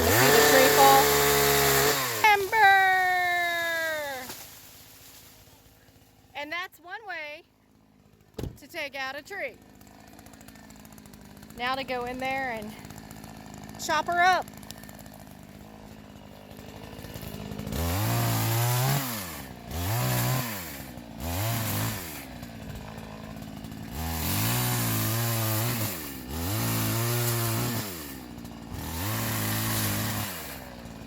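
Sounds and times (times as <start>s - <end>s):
chainsaw idling and revving: 0.0s - 31.0s.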